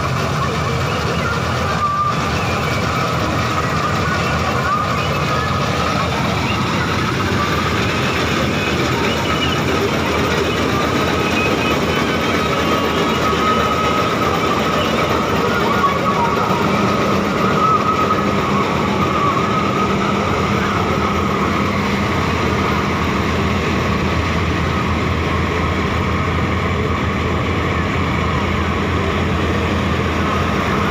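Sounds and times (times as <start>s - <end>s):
combine harvester machinery din: 0.0s - 30.9s
deep engine hum: 0.0s - 30.9s.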